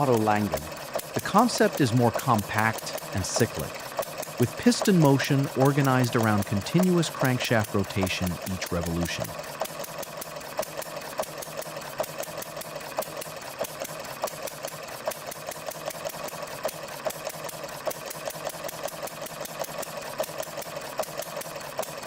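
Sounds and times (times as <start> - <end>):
model engine ticking: 0.0 - 22.0.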